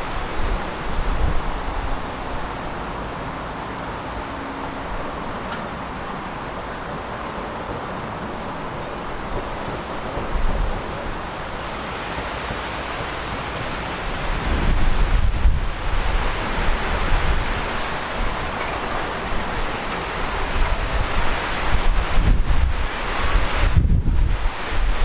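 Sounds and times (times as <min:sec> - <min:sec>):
outdoor ambient rush: 0:00.0 - 0:25.0
wind gust on microphone: 0:00.0 - 0:25.0.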